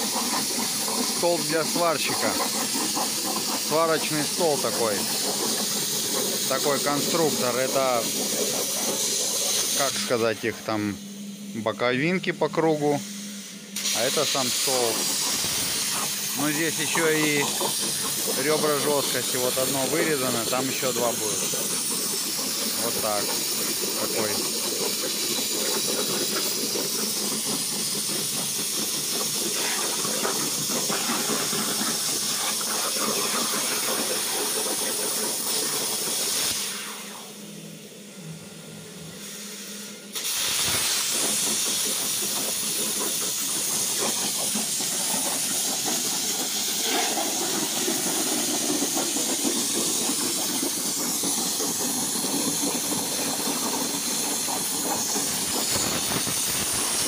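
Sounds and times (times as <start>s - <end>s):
plasma cutter hissing: 0.0s - 37.9s, 39.1s - 57.0s.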